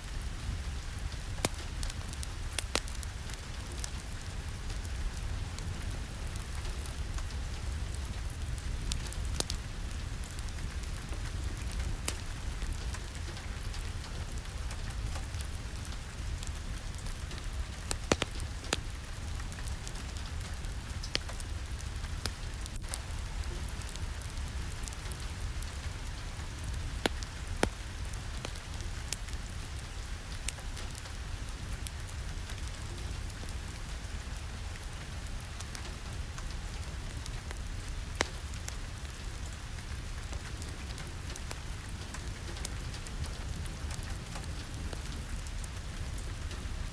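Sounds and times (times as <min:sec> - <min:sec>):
steady rain falling: 0:00.0 - 0:46.9
wood fire crackling: 0:00.0 - 0:46.9.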